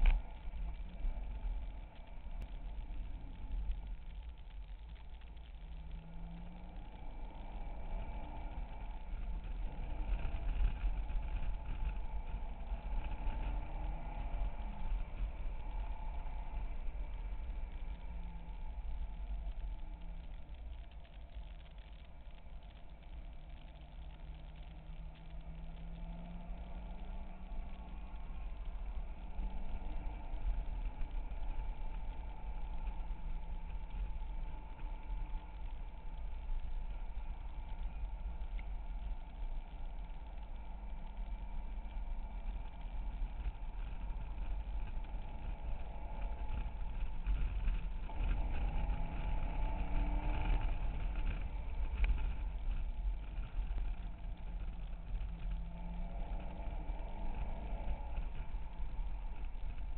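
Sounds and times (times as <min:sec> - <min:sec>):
car engine at speed: 0:00.0 - 0:59.9
road and wind noise: 0:00.0 - 0:59.9.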